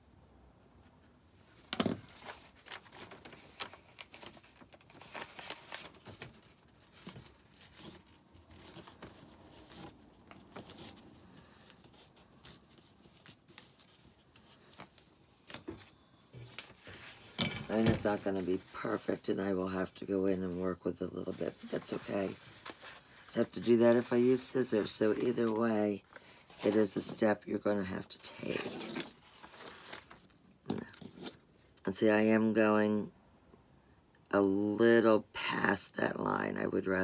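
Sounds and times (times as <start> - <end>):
paper rustling and crinkling: 1.4 - 31.5.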